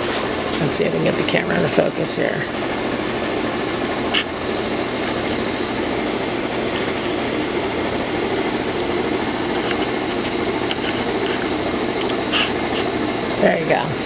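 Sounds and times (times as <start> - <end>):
saw motor drone: 0.0 - 14.0.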